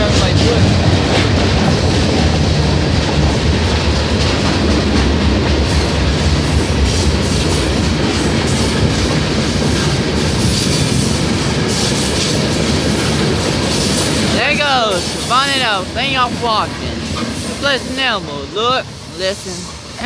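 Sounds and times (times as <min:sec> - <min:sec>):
train cars rumbling on rails: 0:00.0 - 0:20.0.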